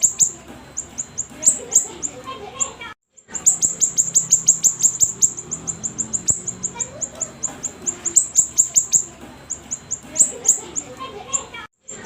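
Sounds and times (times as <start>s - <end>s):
songbird fast high chirps: 0.0s - 11.5s.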